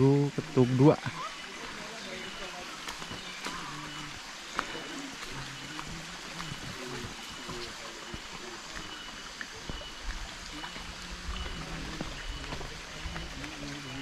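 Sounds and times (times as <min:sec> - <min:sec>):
small water drips: 0:00.0 - 0:14.0.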